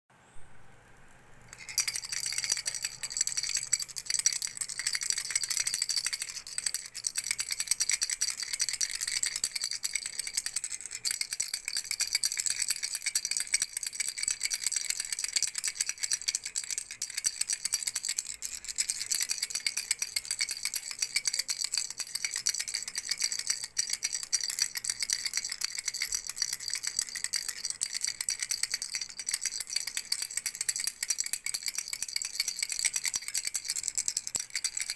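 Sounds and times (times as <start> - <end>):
baby rattle shaking: 1.5 - 34.9.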